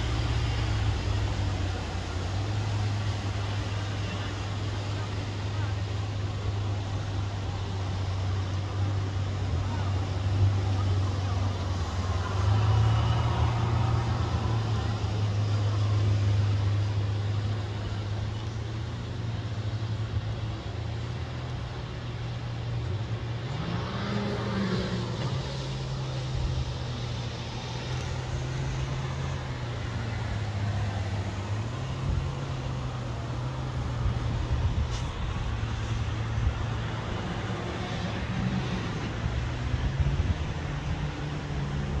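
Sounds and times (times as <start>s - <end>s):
jet ski engines droning: 0.0s - 42.0s.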